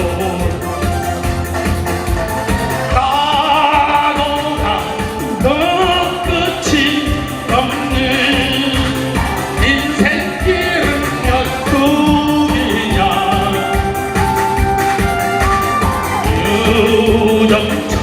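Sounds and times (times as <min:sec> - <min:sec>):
man singing: 0:00.0 - 0:01.4, 0:02.8 - 0:14.4, 0:16.2 - 0:18.0
backing music with low beat: 0:00.0 - 0:18.0.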